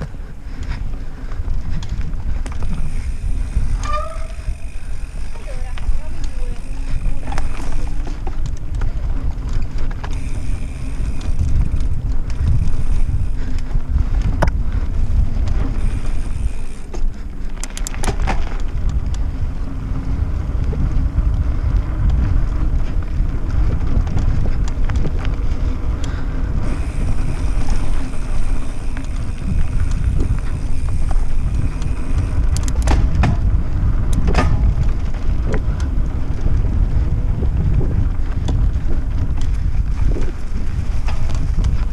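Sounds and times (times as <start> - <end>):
bike rattling over bumps: 0.0 - 41.9
tyres rumbling on dirt: 0.0 - 41.9
wind buffeting microphone: 0.0 - 41.9.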